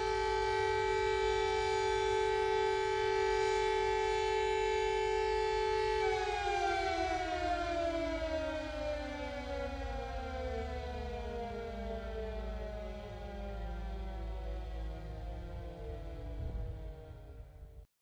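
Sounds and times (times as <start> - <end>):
warning siren winding down: 0.0 - 17.8.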